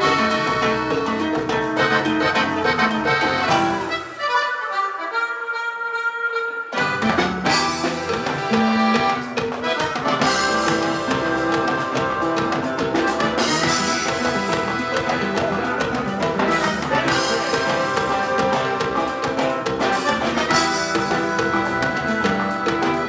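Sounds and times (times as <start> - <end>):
upbeat accordion dance band: 0.0 - 23.0.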